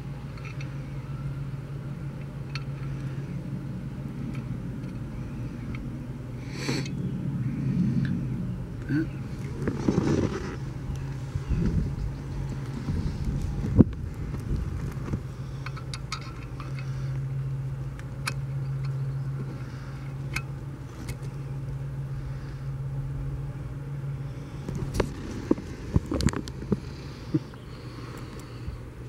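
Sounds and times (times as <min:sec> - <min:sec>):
motor humming: 0:00.0 - 0:29.0.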